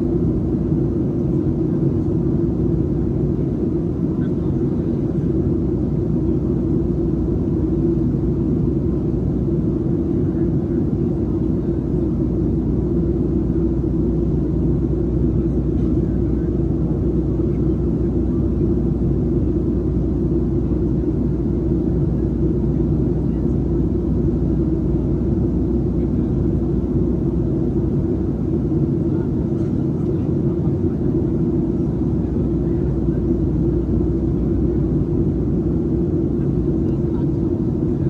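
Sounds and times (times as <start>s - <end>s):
jet engines and rushing airflow: 0.0s - 38.0s.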